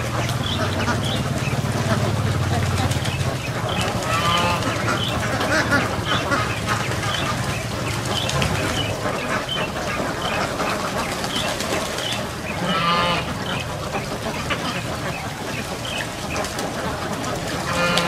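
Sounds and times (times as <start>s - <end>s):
loud long duck quack: 0.0s - 11.4s, 12.4s - 18.0s
flock of ducks quacking: 0.0s - 18.0s.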